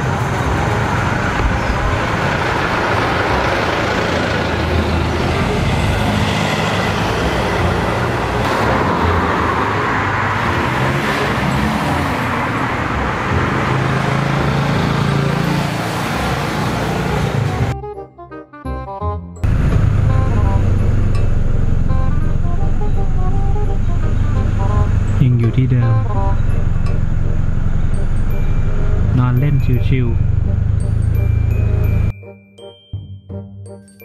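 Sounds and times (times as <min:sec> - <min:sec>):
road traffic rumble: 0:00.0 - 0:17.8, 0:19.4 - 0:32.1.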